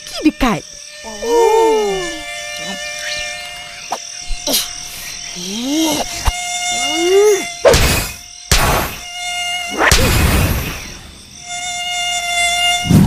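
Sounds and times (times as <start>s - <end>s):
buzzing insects: 0.0s - 13.0s.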